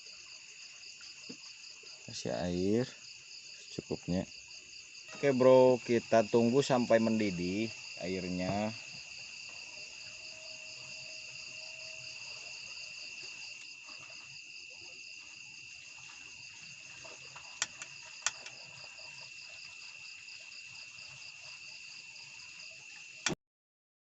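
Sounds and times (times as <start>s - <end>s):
insect chorus trilling: 0.0s - 23.3s.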